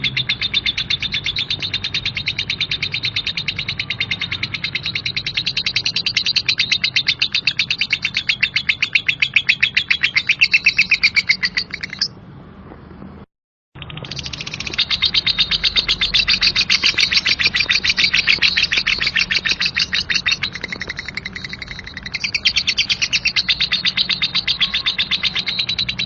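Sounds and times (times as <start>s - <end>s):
lovebird chattering: 0.0s - 12.2s, 13.8s - 26.0s.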